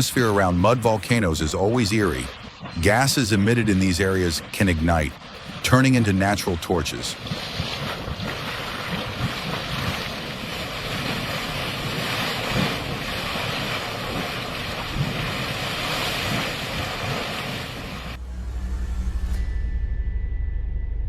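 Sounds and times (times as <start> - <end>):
steady rushing noise: 0.0 - 19.6
low gusty rumbling: 0.3 - 21.0.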